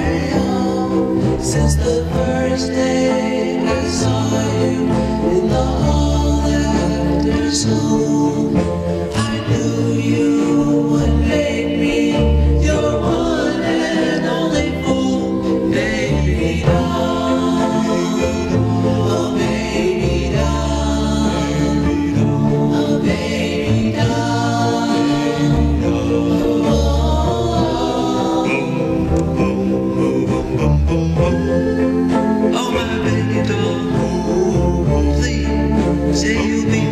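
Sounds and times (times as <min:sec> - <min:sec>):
pulsing bass line: 0:00.0 - 0:36.9
vocal group singing in harmony: 0:00.0 - 0:36.9.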